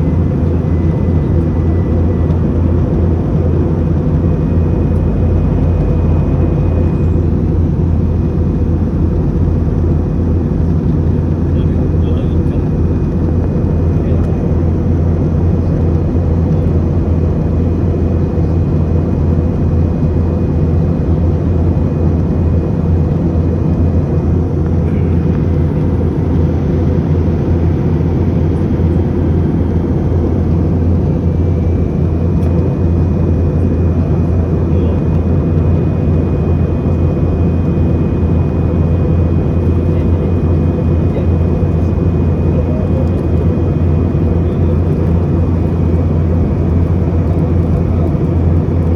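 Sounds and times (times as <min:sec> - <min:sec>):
airliner cabin drone: 0:00.0 - 0:48.9.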